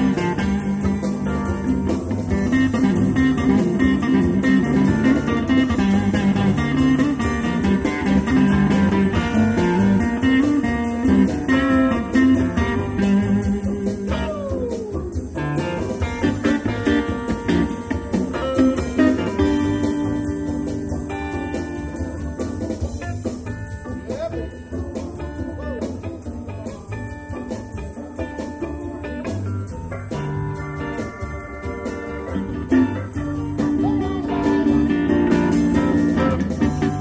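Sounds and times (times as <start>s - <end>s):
bass line: 0.0s - 37.0s
electric guitars: 0.0s - 37.0s
live blues band playing: 0.0s - 37.0s.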